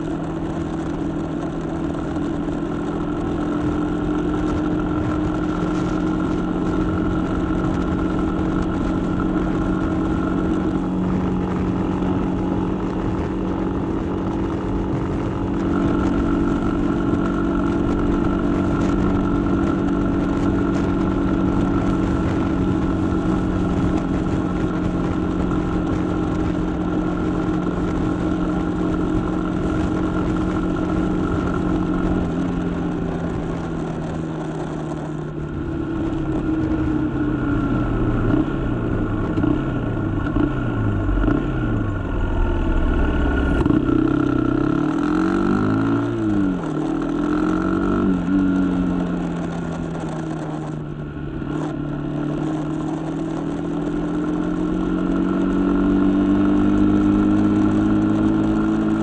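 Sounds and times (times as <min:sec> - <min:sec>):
wind rush: 0:00.0 - 0:34.6, 0:35.2 - 0:59.0
motorcycle engine cruising: 0:00.0 - 0:59.0.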